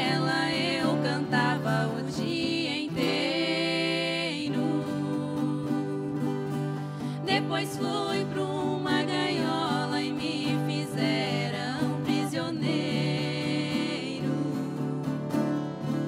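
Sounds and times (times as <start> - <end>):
woman singing slow ballad: 0.0 - 15.2
picked guitars: 0.0 - 16.0.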